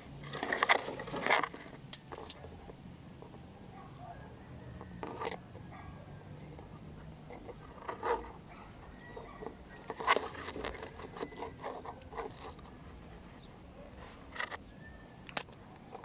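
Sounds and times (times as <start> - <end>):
rustling and scratching taps: 0.2 - 16.0.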